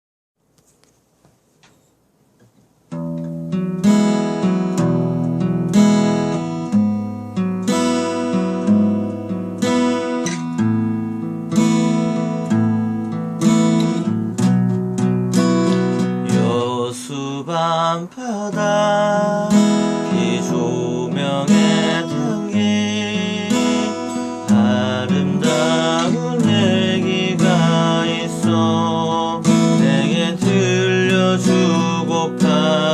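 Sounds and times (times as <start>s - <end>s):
acoustic guitar strumming chords: 2.9s - 32.9s.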